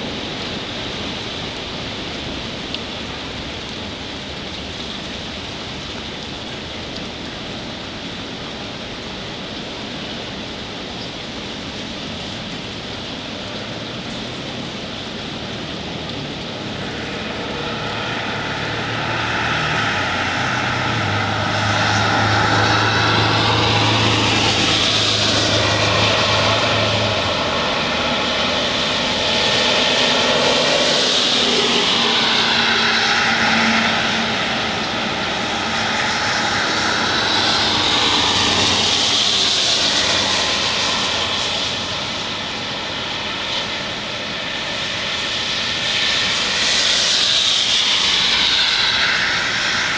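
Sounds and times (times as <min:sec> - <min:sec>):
storm wind gusting: 0:00.0 - 0:49.9.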